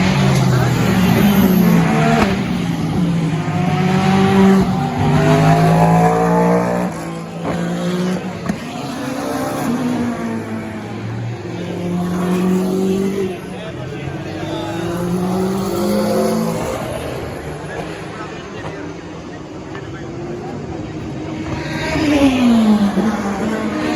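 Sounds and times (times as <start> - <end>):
race cars revving past: 0.0 - 23.9.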